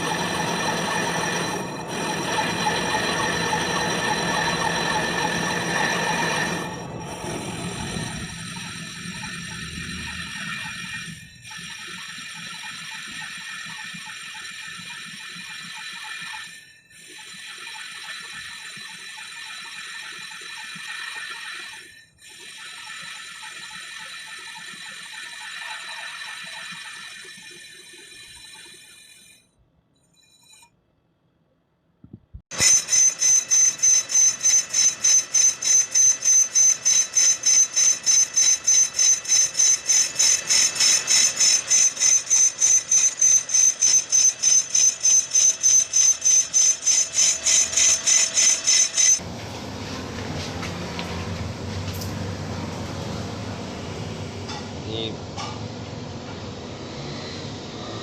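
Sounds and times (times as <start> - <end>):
power tool whining on metal: 0.0 - 29.4, 32.5 - 58.0.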